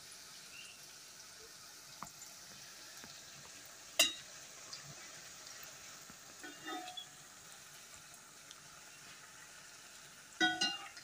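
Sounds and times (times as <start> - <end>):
doughnuts deep-frying in oil: 0.0 - 11.0.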